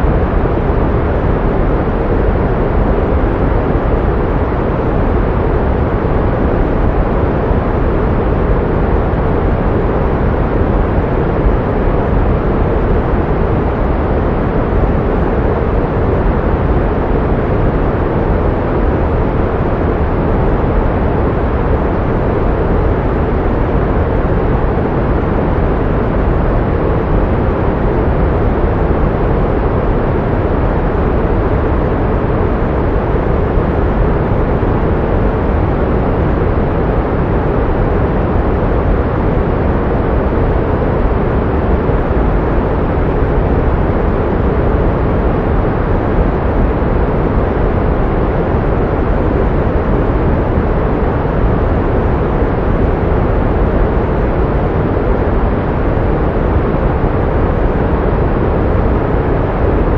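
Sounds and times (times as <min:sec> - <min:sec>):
pink noise: 0:00.0 - 0:59.9.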